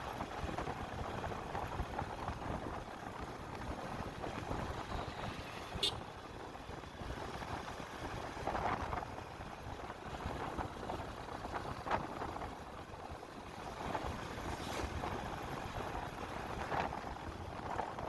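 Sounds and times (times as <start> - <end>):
road and engine noise: 0.0 - 18.0.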